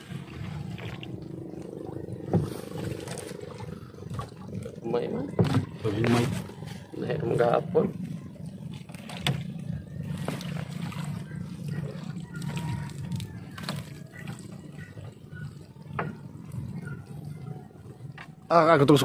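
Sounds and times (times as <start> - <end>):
seawater sloshing and splashing: 0.0 - 18.7.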